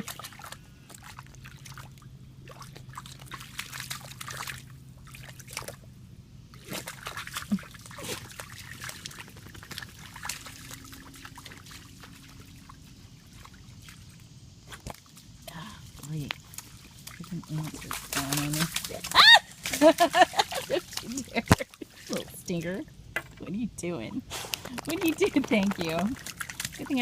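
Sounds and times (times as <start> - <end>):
puppy splashing in puddle: 0.0 - 23.0, 24.2 - 27.0
water trickling: 0.0 - 27.0.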